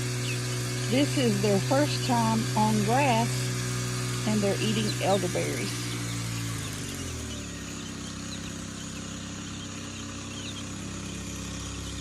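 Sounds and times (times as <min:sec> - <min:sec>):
chicks peeping: 0:00.0 - 0:12.0
low machine hum: 0:00.0 - 0:12.0.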